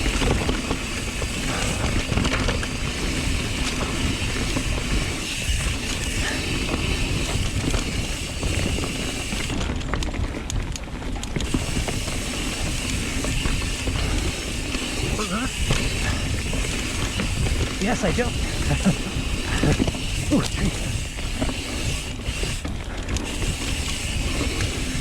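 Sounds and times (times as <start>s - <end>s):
bike chain and frame rattling: 0.0s - 25.0s
bike tyres rolling over dirt: 0.0s - 25.0s
freehub clicking: 0.0s - 25.0s
wind buffeting microphone: 0.0s - 25.0s.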